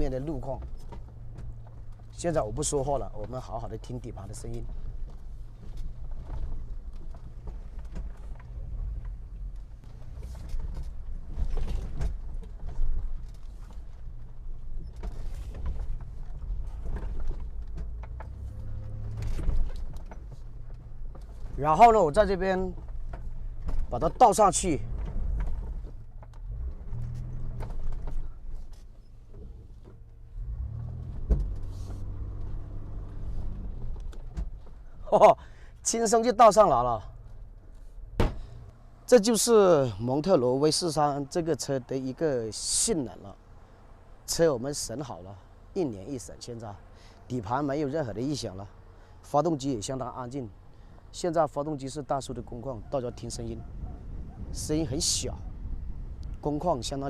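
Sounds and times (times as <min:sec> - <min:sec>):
chassis creaks and clicks: 0:00.0 - 0:41.8, 0:49.4 - 0:57.0
low engine rumble: 0:00.0 - 0:57.0.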